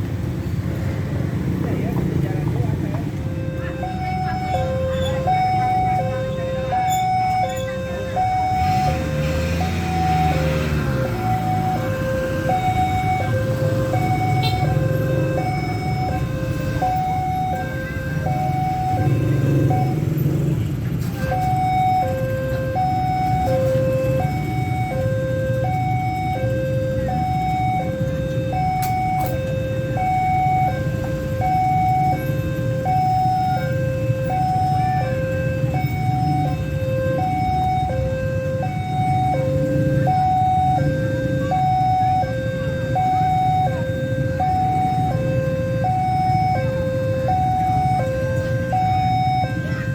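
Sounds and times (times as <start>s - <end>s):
level crossing two-tone alarm: 2.8s - 20.5s, 21.1s - 49.9s.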